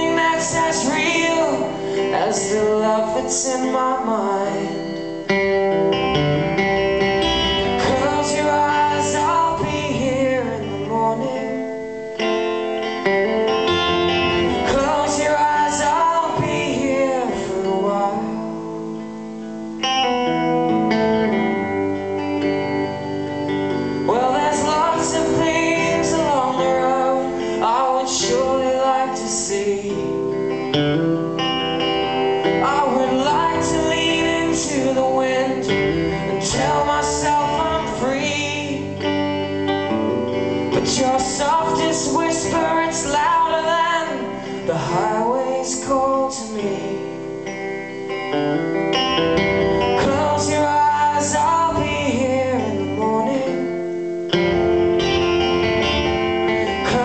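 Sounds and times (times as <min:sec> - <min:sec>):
electric guitar playing: 0:00.0 - 0:57.0
person singing: 0:00.0 - 0:57.0.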